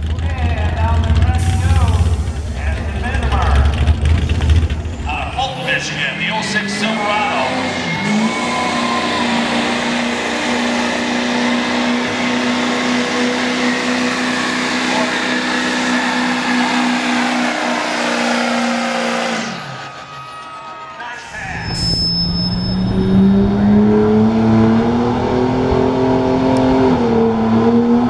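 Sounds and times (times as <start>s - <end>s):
diesel truck engine at full throttle: 0.0s - 28.0s.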